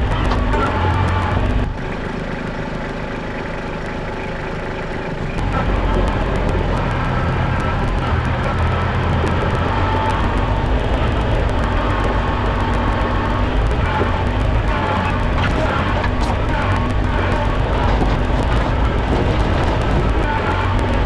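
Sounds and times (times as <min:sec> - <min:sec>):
diesel engine running: 0:00.0 - 0:21.0
machine working gravel: 0:00.0 - 0:21.0.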